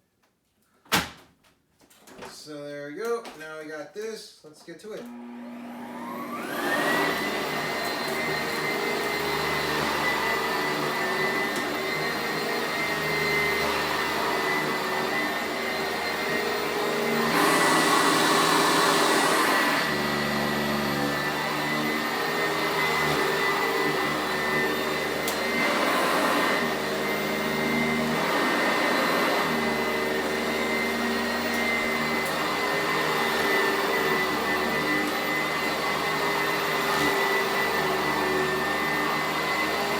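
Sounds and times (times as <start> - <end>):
vacuum cleaner whining: 4.9 - 39.9.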